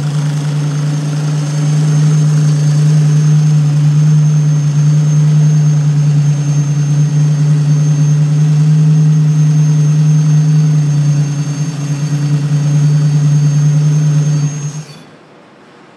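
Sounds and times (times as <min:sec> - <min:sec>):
car engine idling: 0:00.0 - 0:14.8
thin high whine: 0:00.0 - 0:15.9.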